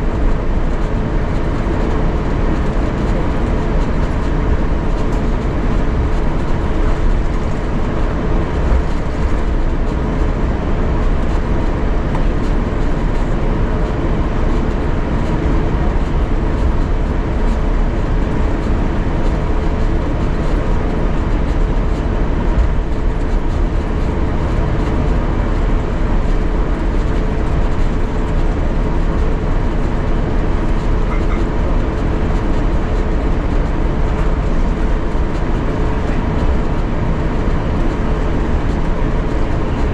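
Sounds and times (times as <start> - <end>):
low cabin rumble: 0.0 - 39.9.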